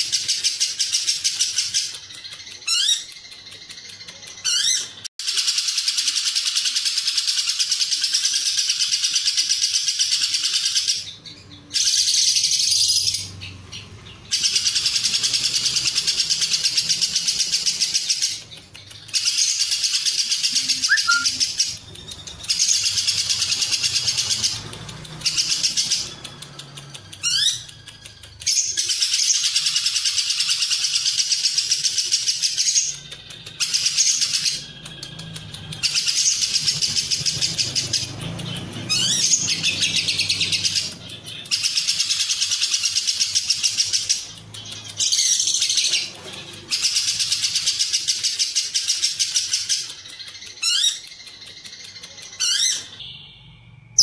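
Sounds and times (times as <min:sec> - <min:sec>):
bird chattering: 0:00.0 - 0:53.0.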